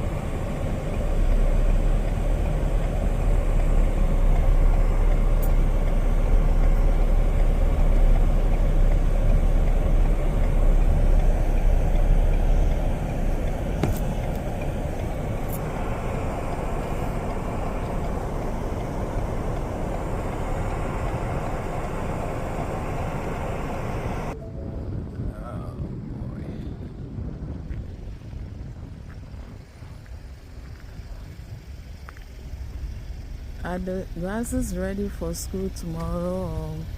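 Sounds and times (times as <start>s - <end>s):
car road and engine rumble: 0.0s - 36.9s.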